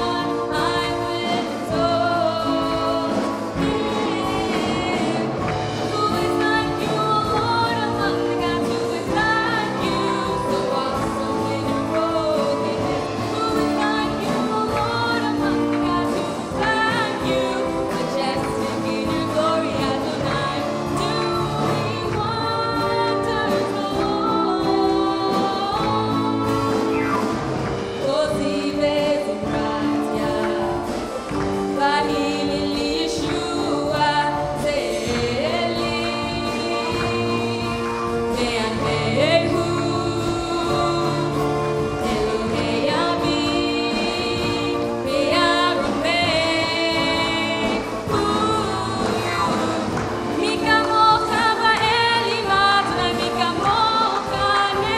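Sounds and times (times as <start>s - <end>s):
instrumental accompaniment: 0.0s - 54.9s.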